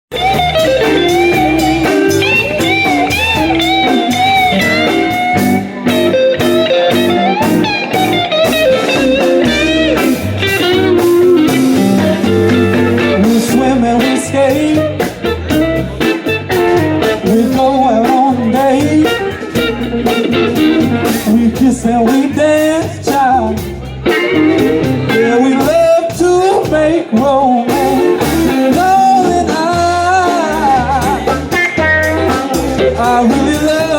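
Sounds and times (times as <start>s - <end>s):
blues-rock band playing: 0.1s - 33.9s
lead electric guitar bending notes: 0.1s - 33.9s.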